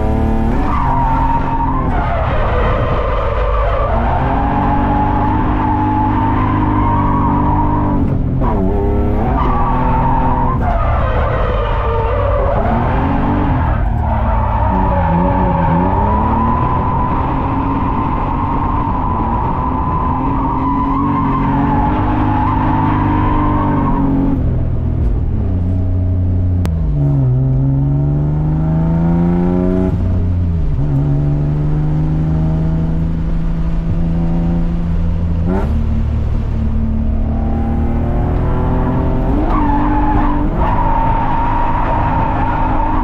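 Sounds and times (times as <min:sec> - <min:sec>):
car engine revving hard: 0:00.0 - 0:24.5, 0:26.7 - 0:43.0.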